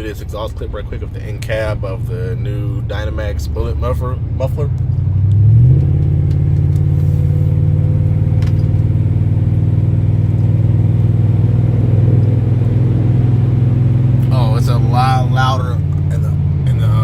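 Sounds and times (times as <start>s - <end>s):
truck exhaust drone from inside cab: 0.0s - 17.0s.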